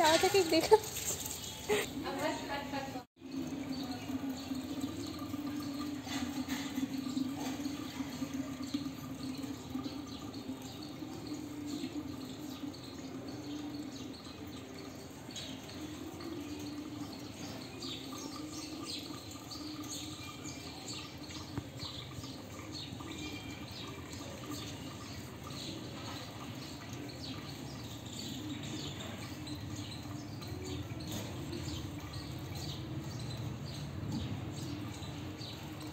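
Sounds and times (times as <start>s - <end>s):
sparrows chirping: 0.0s - 35.9s.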